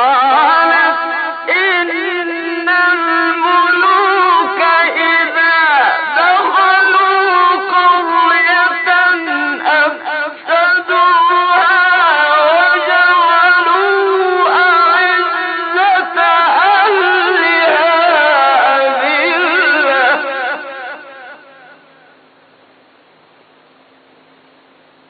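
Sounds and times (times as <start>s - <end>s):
man chanting melodically: 0.0s - 22.2s.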